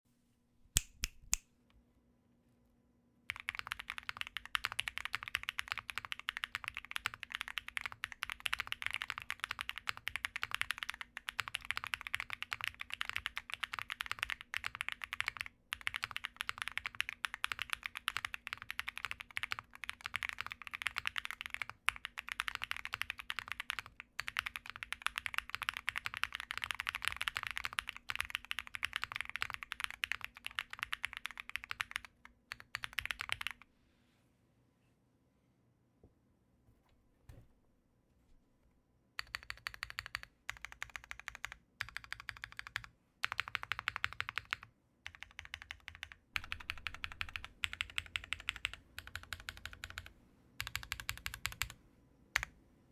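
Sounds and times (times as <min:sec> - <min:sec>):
mechanical keyboard typing: 0:03.3 - 0:33.6, 0:39.2 - 0:51.8, 0:52.4 - 0:52.6.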